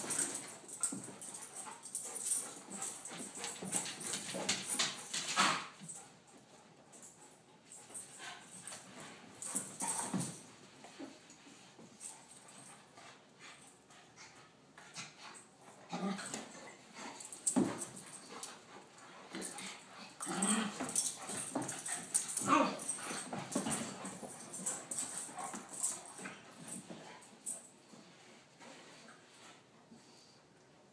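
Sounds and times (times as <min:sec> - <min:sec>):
dogs play-fighting: 0:00.0 - 0:30.2.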